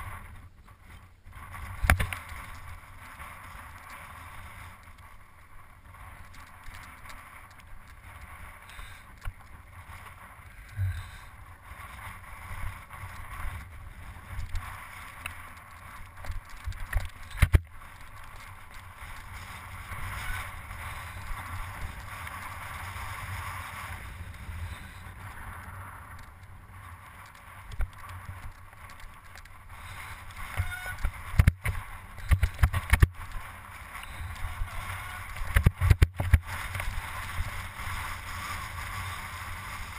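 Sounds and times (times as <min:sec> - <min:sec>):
bike knocking and rattling: 0:00.0 - 0:39.9
wind rumble on microphone: 0:00.0 - 0:39.9.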